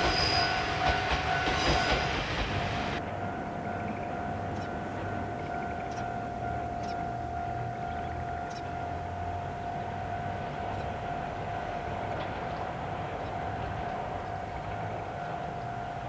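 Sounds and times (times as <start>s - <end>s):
diesel railcar drone: 0.0s - 16.0s.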